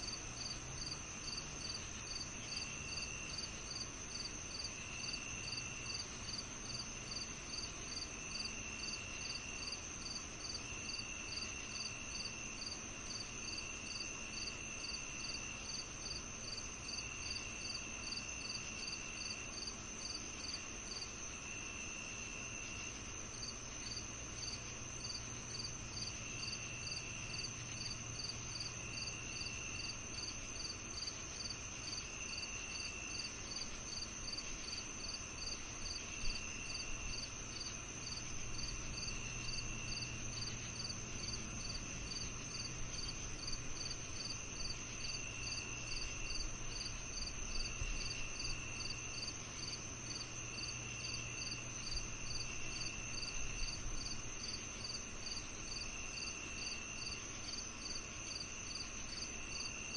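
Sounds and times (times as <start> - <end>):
crickets chirping: 0.0 - 59.9
low buzzing insect trill: 0.0 - 59.9.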